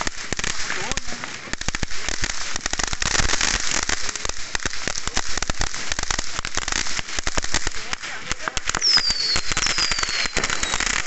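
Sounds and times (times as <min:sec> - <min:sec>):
fireworks and firecrackers crackling: 0:00.0 - 0:11.0.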